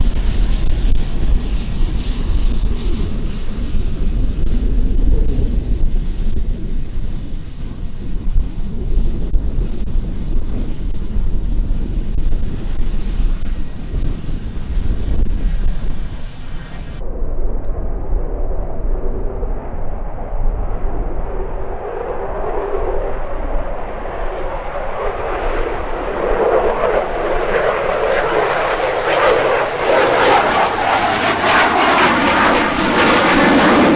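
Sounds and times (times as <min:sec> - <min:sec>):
airliner engine noise: 0:00.0 - 0:33.9
wind rumbling on microphone: 0:00.0 - 0:33.9.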